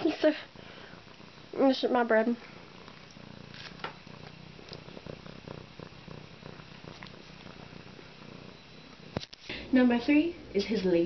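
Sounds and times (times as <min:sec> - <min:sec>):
kitten purring: 0:00.0 - 0:11.0.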